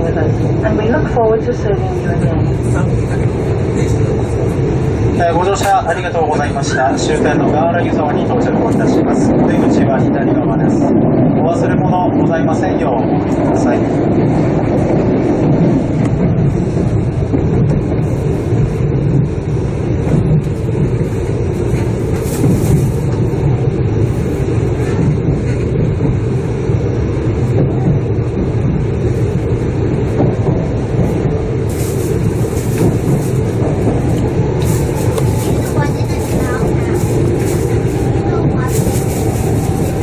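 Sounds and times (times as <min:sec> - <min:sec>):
train running on track: 0:00.0 - 0:40.0.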